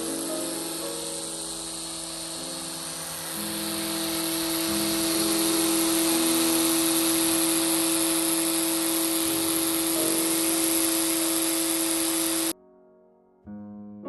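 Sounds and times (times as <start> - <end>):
grass trimmer whirring whine: 0.0 - 12.5.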